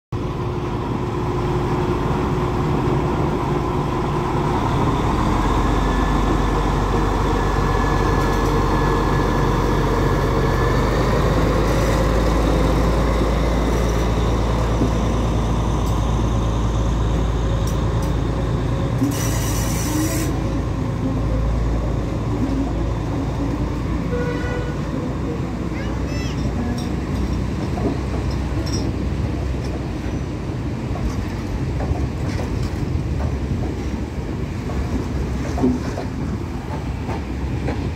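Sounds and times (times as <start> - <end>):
carriages rolling on rails: 0.2 - 37.9
diesel locomotive engine running: 0.2 - 37.9.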